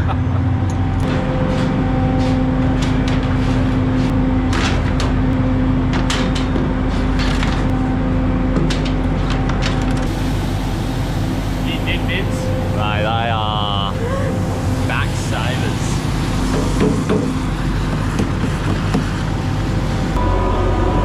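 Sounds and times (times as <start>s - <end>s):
boat engine drone: 0.0s - 21.0s.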